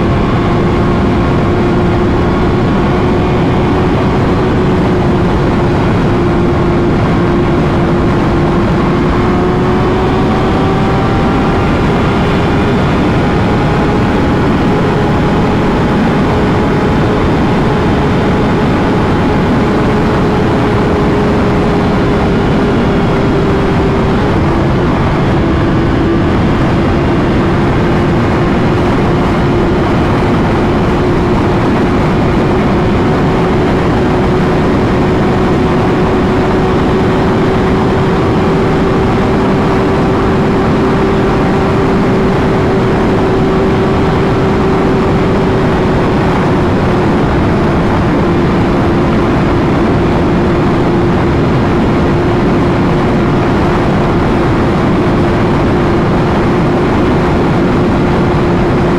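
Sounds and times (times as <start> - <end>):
motorcycle engine cruising: 0.0 - 58.9
wind rush: 0.0 - 58.9.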